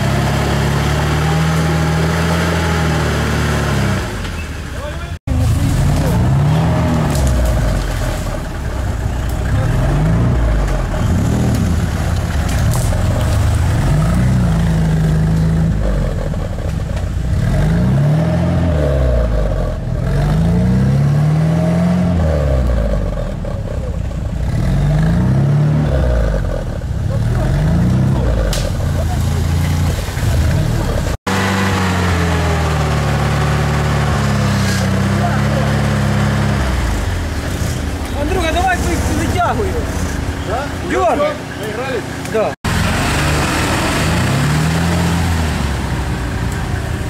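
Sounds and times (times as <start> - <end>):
buggy engine revving: 0.0 - 47.0.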